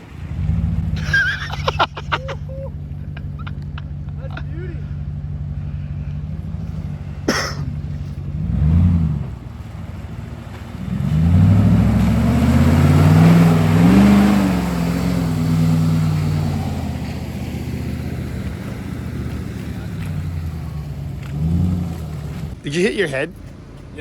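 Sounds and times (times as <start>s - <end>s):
truck engine idling and revving: 0.0s - 24.0s.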